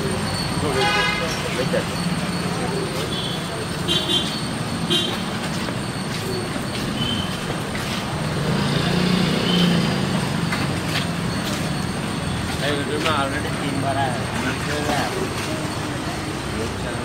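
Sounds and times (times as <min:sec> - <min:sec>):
vehicles passing: 0:00.0 - 0:17.0.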